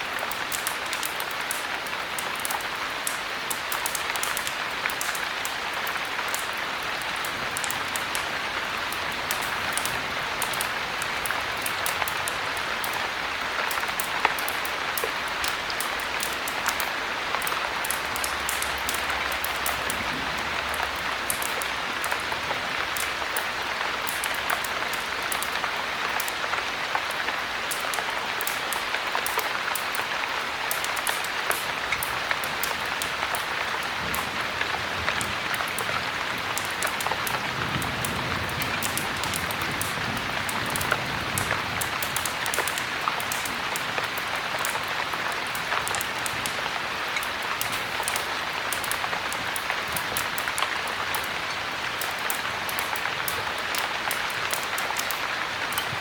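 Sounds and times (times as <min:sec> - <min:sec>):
heavy rain: 0:00.0 - 0:56.0
wood fire crackling: 0:00.0 - 0:56.0.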